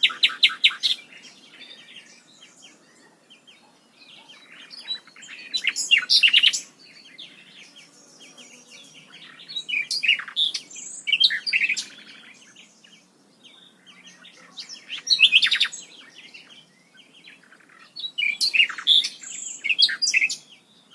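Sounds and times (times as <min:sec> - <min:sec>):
songbirds chirping and trilling: 0:00.0 - 0:20.9.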